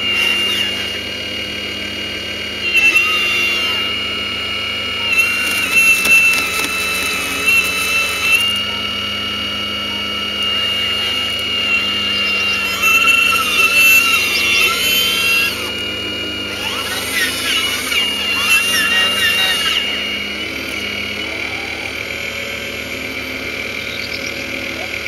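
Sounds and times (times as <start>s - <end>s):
model excavator hydraulic whine: 0.0s - 25.0s
wavering motor whines: 0.0s - 25.0s.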